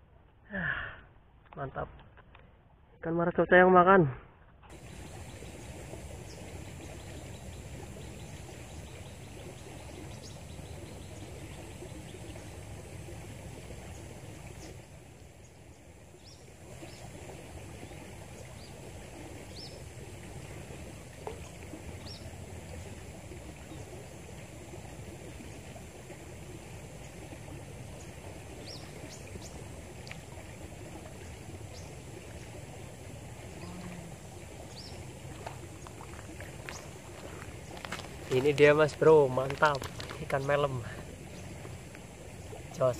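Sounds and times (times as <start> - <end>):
river water flowing over stones: 4.7 - 42.9.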